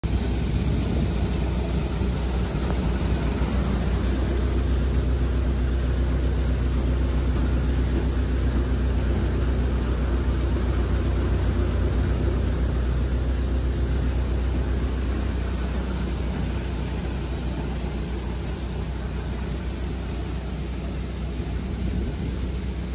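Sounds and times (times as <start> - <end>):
tractor engine drone: 0.0 - 22.9.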